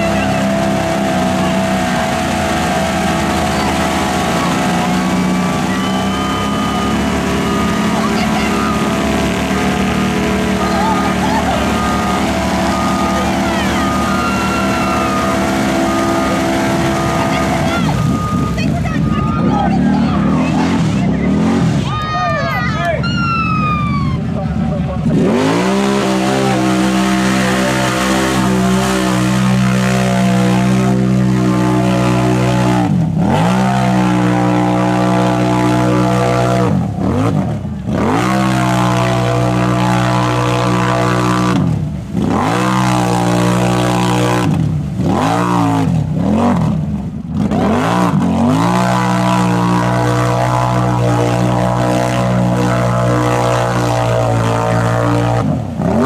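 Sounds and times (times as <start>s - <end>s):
quad bike engine revving: 0.0s - 22.0s, 22.8s - 56.0s.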